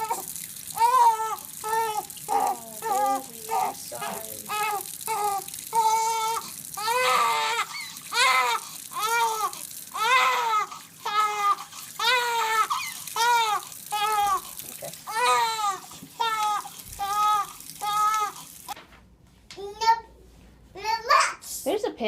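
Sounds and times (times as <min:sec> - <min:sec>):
newborn baby crying: 0:00.0 - 0:18.5.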